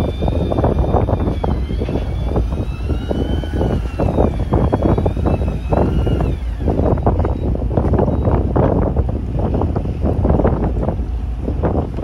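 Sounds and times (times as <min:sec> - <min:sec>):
faint wavering whine: 0:00.0 - 0:09.8
boat engine running: 0:00.0 - 0:12.0
wind buffeting microphone: 0:00.0 - 0:12.0.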